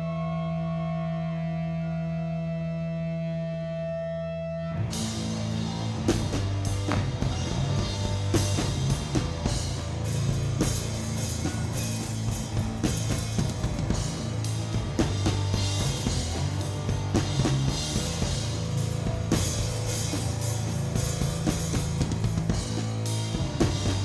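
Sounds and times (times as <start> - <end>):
rock band playing: 0.1 - 24.0.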